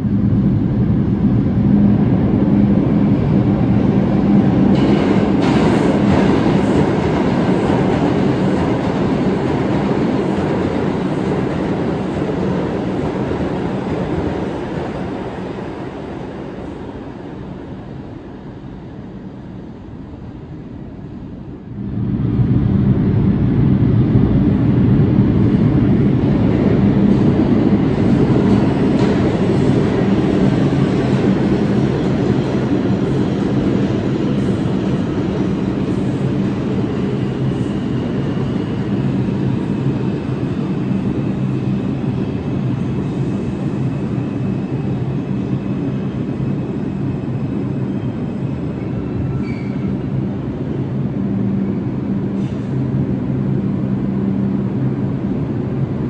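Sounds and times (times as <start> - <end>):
subway train rumbling past: 0.0 - 56.0.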